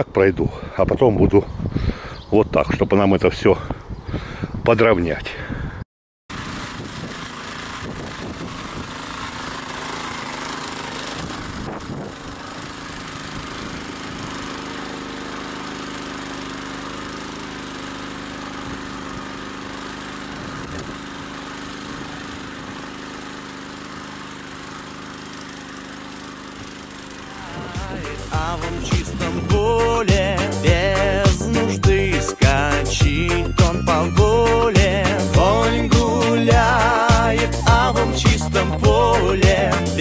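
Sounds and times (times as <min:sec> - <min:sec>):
walk-behind tractor engine: 0:06.3 - 0:40.0.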